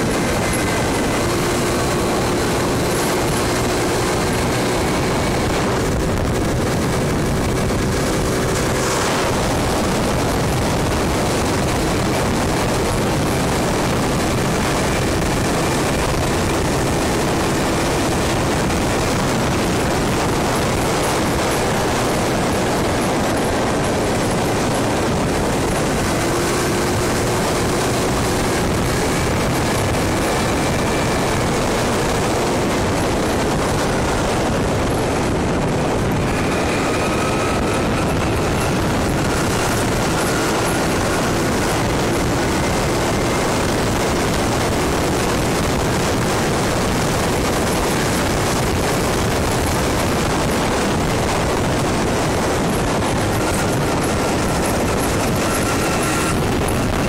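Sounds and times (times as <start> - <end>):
scooter engine running: 0.0 - 57.0
wind rushing over microphone: 0.0 - 57.0.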